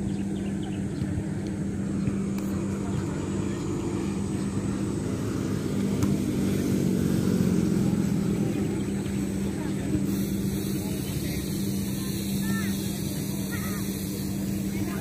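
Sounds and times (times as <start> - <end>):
traffic engine hum: 0.0 - 15.0.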